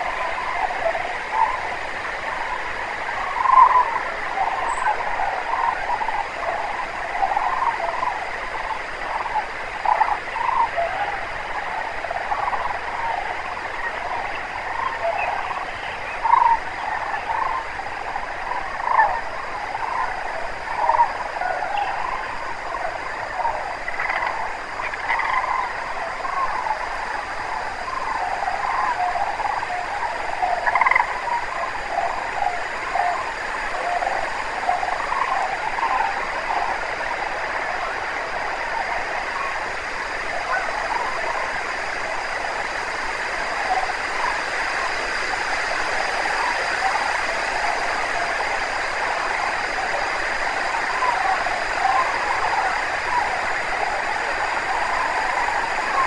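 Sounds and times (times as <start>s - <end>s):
cranes calling in chorus: 0.0s - 56.0s.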